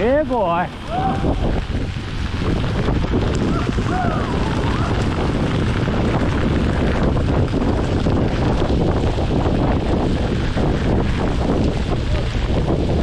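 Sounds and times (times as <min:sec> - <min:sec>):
bike rattling over rough trail: 0:00.0 - 0:13.0
wind rushing over microphone: 0:00.0 - 0:13.0.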